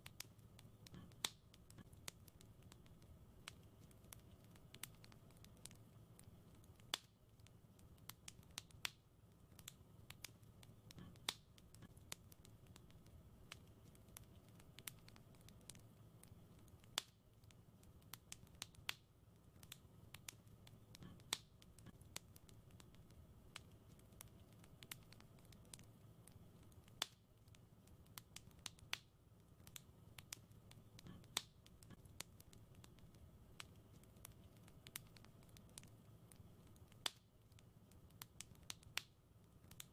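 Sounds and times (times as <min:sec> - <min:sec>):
soft low rumble of burning: 0:00.0 - 0:39.9
wood fire crackling: 0:00.0 - 0:39.9.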